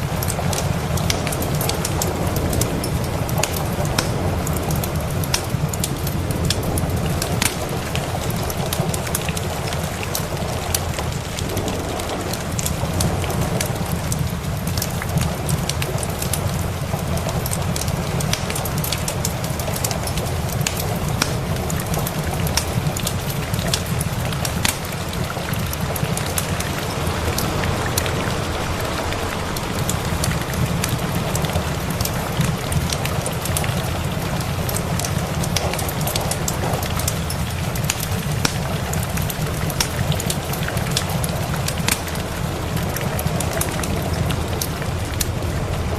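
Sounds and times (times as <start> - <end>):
steady rain: 0.0 - 45.9
wood fire crackling: 0.0 - 45.9.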